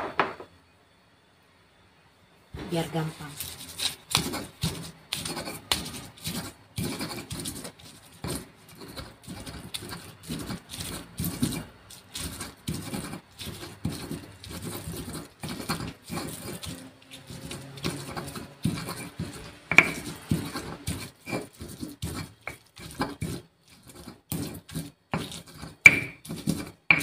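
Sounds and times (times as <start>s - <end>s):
stone pestle grinding in mortar: 2.8s - 27.0s.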